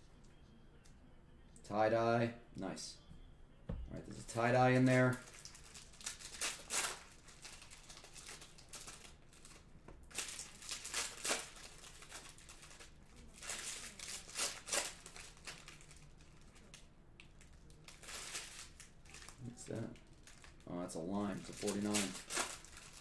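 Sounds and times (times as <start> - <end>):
foil wrappers crinkling and tearing: 4.2 - 23.0.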